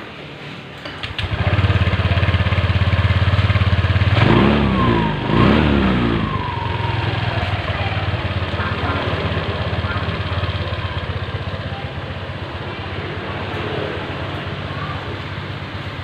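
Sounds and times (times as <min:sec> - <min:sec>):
scooter engine starting and idling: 0:00.7 - 0:16.0
scooter engine revving: 0:01.0 - 0:16.0.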